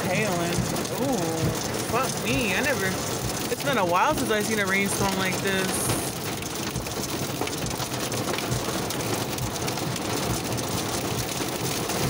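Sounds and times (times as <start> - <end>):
rain and hail on car roof: 0.0 - 12.0.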